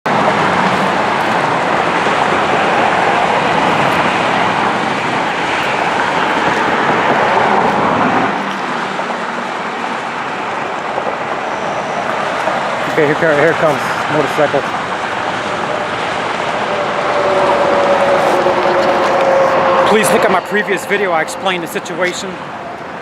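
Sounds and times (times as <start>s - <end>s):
highway traffic rushing: 0.0s - 23.0s.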